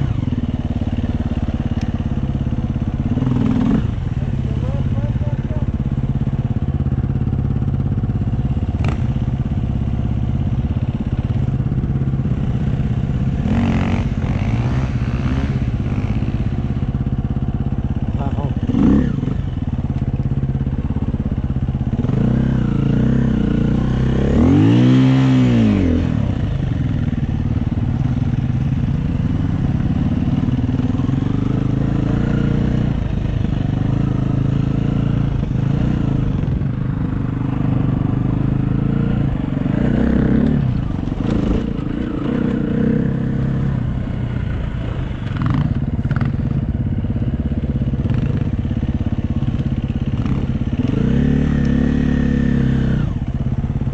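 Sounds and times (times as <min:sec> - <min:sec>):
dirt bike engine revving: 0:00.0 - 0:10.0, 0:10.6 - 0:19.8, 0:21.9 - 0:53.2.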